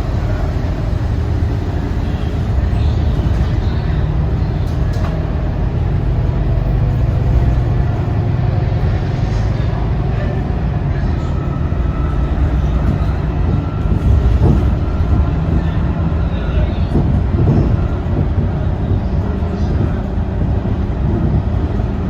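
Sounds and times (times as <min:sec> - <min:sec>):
bus diesel engine rumbling: 0:00.0 - 0:22.0.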